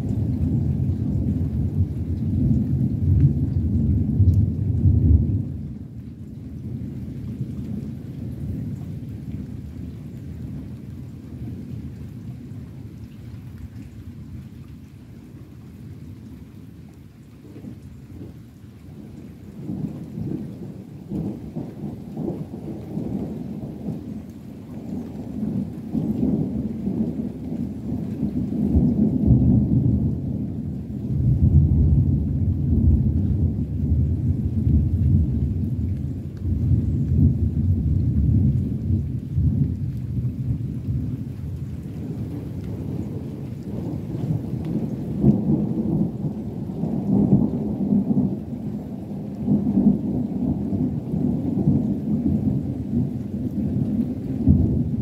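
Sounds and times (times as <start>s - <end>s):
rolling thunder rumble: 0.0s - 13.0s, 17.4s - 55.0s.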